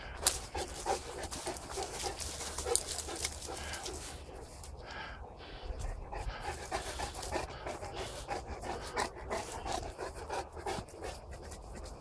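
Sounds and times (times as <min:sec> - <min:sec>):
dog panting rapidly: 0:00.4 - 0:12.0.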